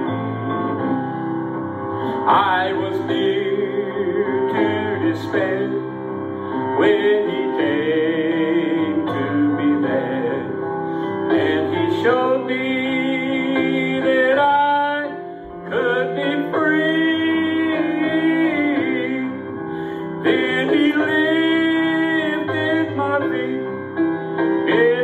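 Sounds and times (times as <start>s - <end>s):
piano accompaniment: 0.0s - 25.0s
person singing with vibrato: 2.0s - 23.9s, 24.6s - 25.0s.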